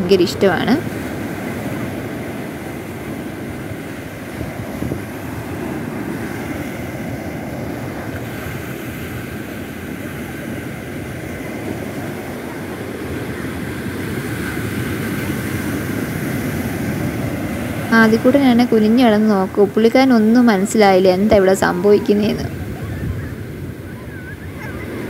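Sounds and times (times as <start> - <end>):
sea surf breaking: 0.0 - 25.0
wind rumbling on microphone: 0.0 - 25.0.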